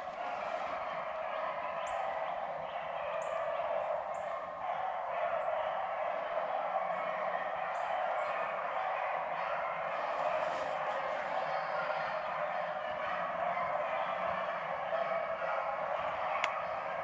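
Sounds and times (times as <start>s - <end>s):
dogs baying: 0.0s - 17.0s.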